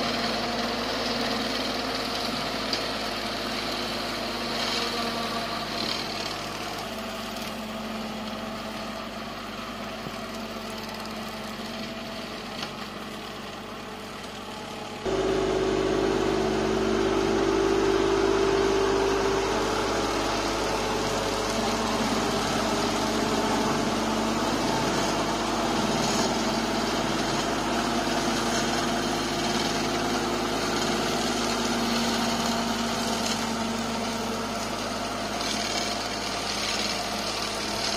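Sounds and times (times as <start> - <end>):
mower engine humming: 0.0 - 37.9.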